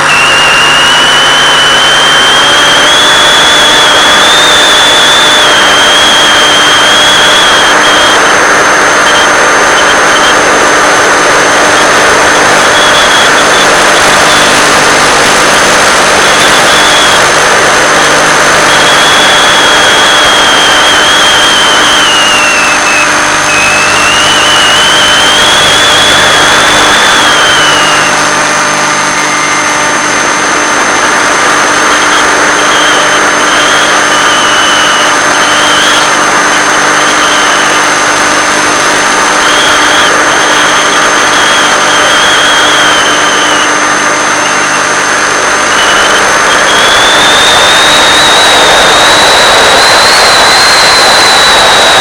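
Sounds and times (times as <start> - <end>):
electric motor and propeller: 0.0 - 52.0
static hiss: 0.0 - 52.0
thin high whine: 0.0 - 52.0.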